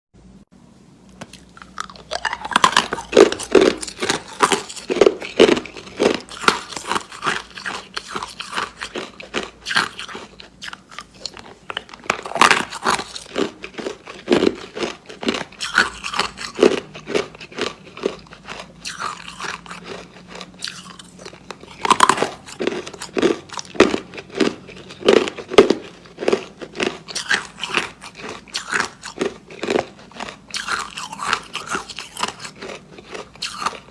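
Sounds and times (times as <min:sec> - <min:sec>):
ice being chewed: 0:01.1 - 0:33.9.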